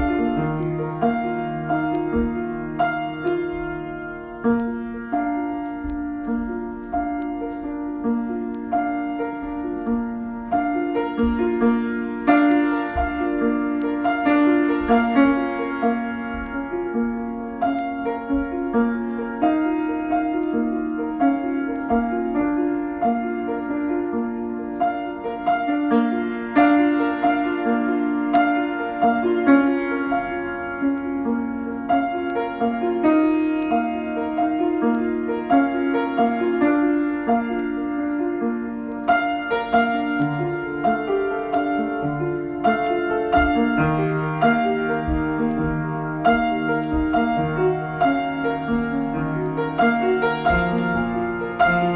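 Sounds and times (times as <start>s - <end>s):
solo piano: 0.0s - 51.9s.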